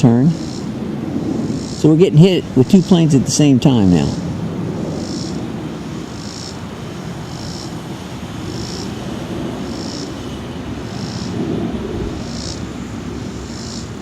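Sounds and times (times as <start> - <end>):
jet airliners passing overhead: 0.0 - 14.0.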